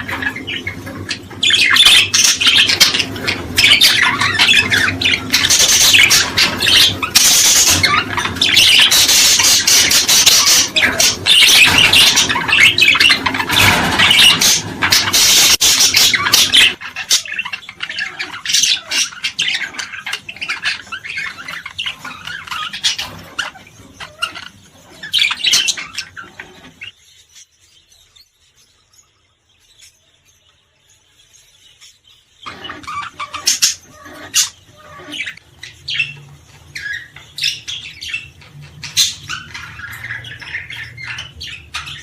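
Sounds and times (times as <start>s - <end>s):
cage birds chirping: 0.0s - 42.0s.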